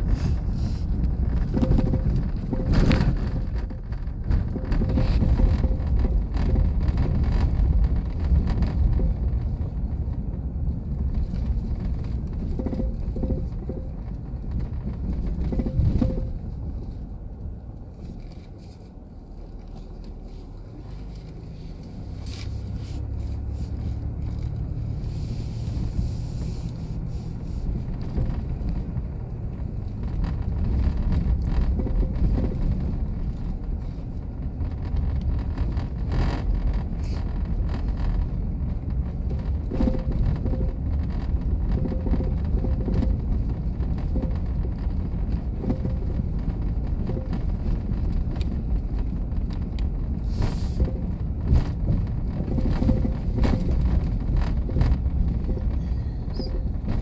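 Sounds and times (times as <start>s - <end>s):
knocks and rattles: 0.0s - 17.0s, 27.7s - 50.2s, 50.8s - 57.0s
tyres and engine rumble: 0.0s - 57.0s.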